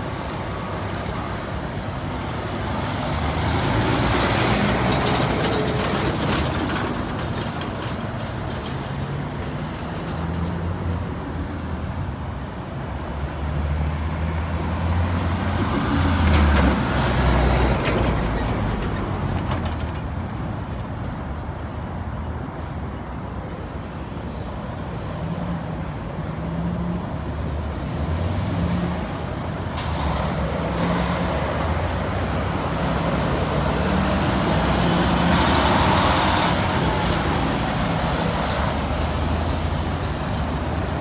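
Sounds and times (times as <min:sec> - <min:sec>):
diesel truck engines passing: 0:00.0 - 0:41.0.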